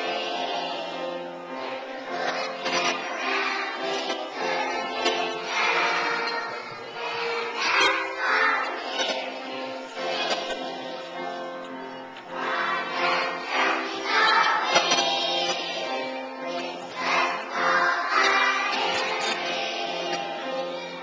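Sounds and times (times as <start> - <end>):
children's choir singing: 0.0 - 21.0
instrumental accompaniment: 0.0 - 21.0.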